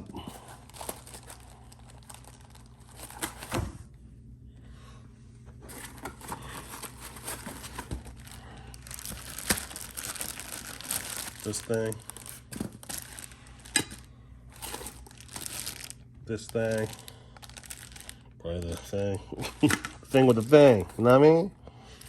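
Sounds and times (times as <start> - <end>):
plastic packaging crinkling: 0.0 - 3.5, 5.7 - 21.2.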